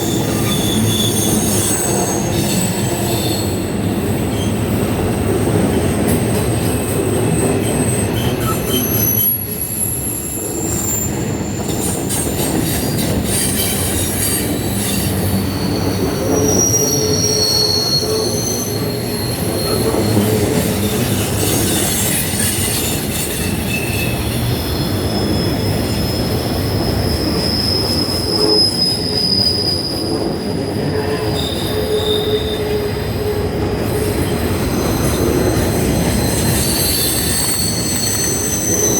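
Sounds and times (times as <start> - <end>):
train cars rumbling past: 0.0 - 38.9
train wheel squeals: 0.0 - 38.9.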